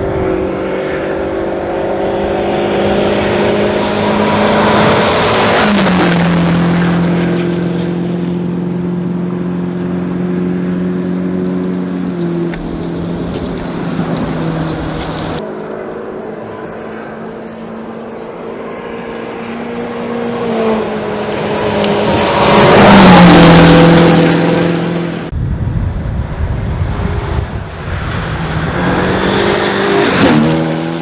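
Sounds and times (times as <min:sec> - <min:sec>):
rally car passing by: 0:00.0 - 0:25.4, 0:26.2 - 0:31.0.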